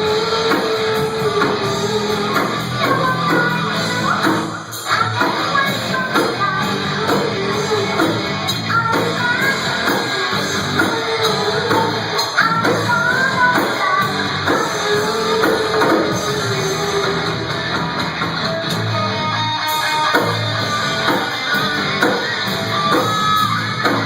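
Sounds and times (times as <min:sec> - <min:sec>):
bending guitar melody: 0:00.0 - 0:24.0
live rock band playing: 0:00.0 - 0:24.0.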